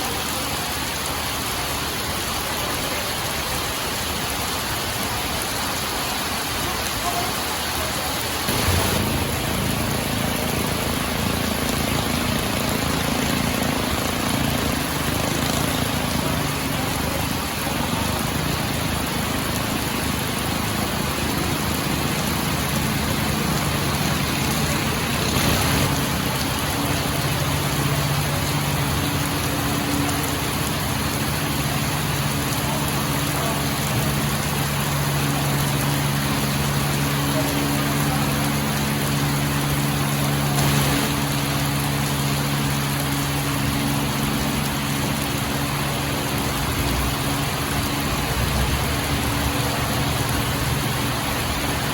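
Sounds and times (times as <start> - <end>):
boat engine humming: 4.5 - 51.9.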